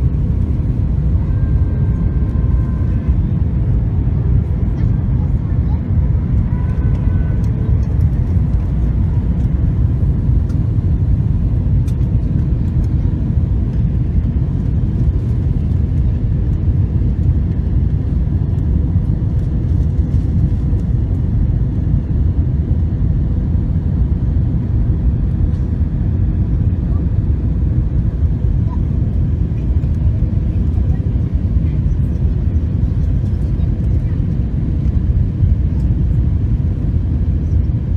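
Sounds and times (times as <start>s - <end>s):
airliner low rumble: 0.0s - 37.9s.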